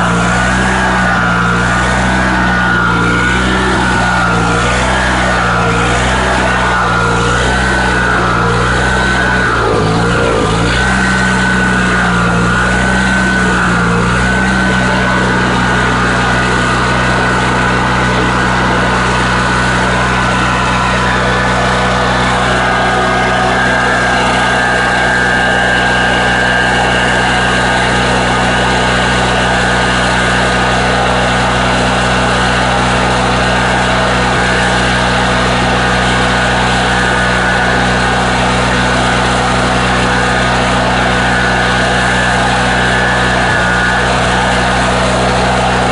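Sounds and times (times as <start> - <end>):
generator engine running: 0.0 - 45.9.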